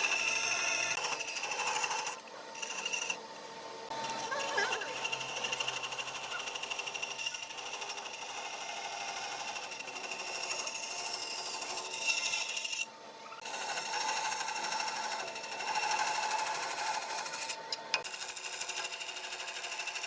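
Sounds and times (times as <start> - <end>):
power tool buzzing on wood: 0.0 - 20.0.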